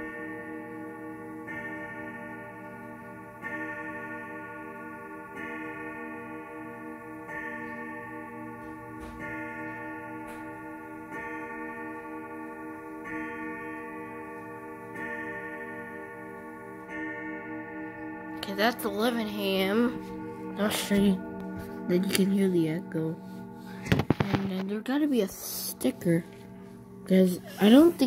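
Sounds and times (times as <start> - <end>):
grandfather clock gong striking: 0.0 - 28.0.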